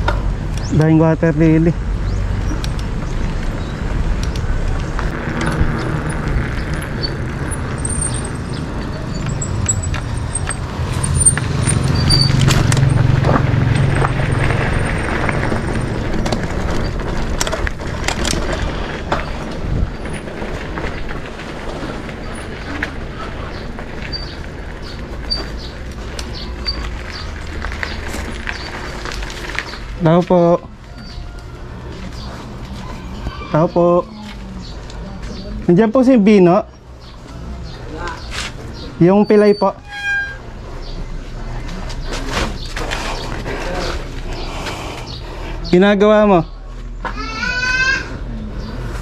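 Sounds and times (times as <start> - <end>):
vehicle passing with low rumble: 0.0 - 47.0.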